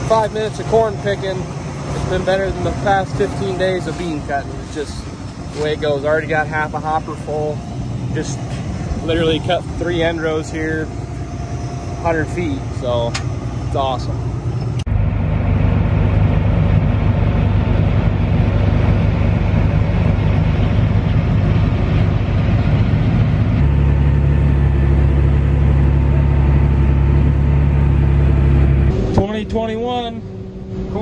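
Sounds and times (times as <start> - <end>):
combine harvester drone: 0.0 - 31.0.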